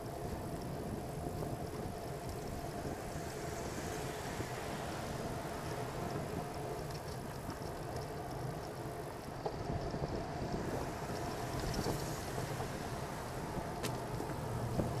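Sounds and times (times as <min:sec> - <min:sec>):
traffic rumble of cars and tyres: 0:00.0 - 0:15.0.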